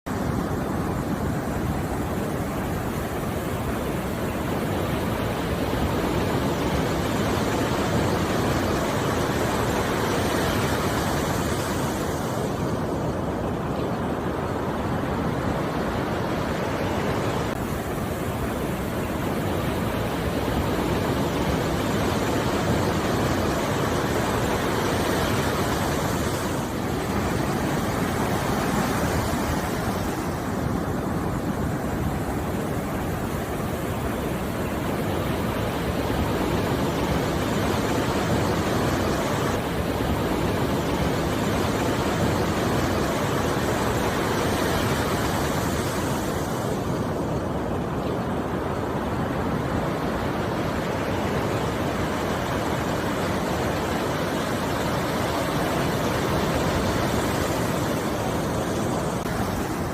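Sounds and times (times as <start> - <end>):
water rushing: 0.1 - 59.9.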